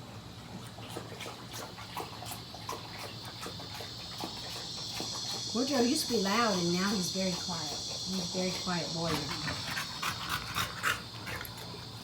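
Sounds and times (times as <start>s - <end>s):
animal licking wetly: 0.5s - 12.0s.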